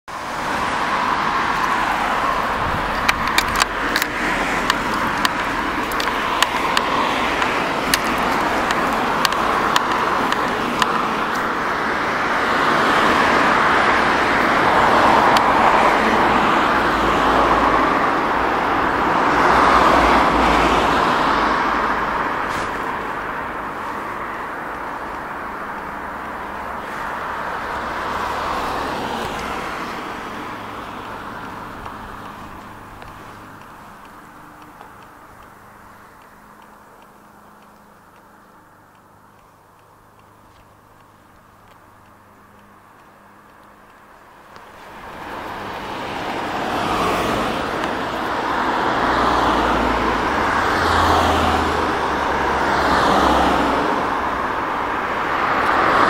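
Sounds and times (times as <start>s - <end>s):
passing cars: 0.1s - 56.0s.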